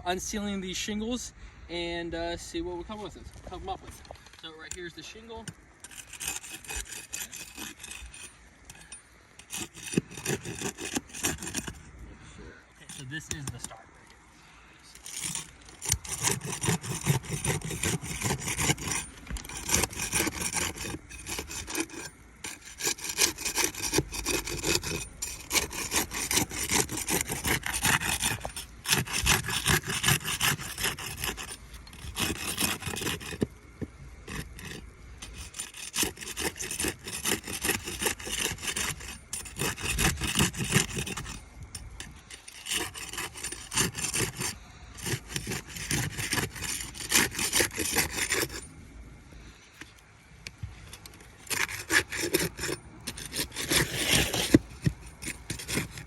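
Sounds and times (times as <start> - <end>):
flat bar scraping under shingles: 2.4 - 56.0.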